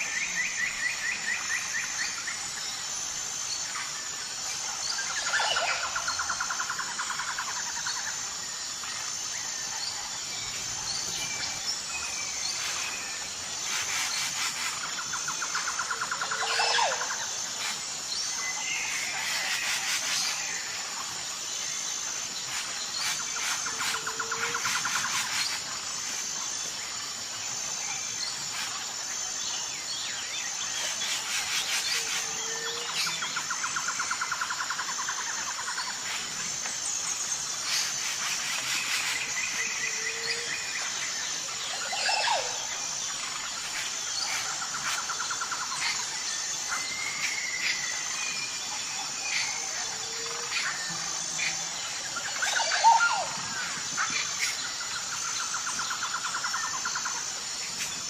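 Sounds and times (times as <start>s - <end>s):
high pulsing insect drone: 0.0s - 58.0s.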